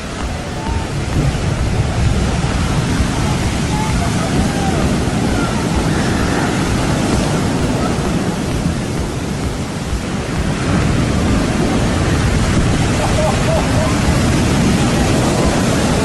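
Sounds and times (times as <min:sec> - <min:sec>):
heavy ocean surf breaking: 0:00.0 - 0:16.0
wind rumbling on microphone: 0:00.0 - 0:16.0.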